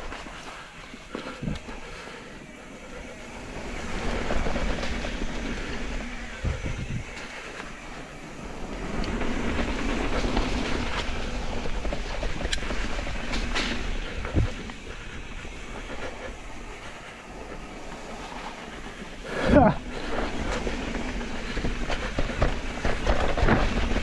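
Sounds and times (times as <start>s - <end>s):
bike tyres rolling over dirt: 0.0s - 24.0s
wind rushing on microphone: 3.4s - 7.2s, 8.1s - 24.0s.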